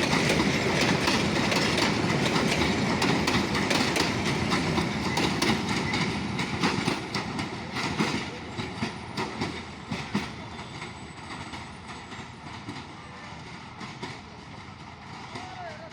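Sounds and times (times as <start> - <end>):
train wheels clicking over rail joints: 0.0 - 15.9.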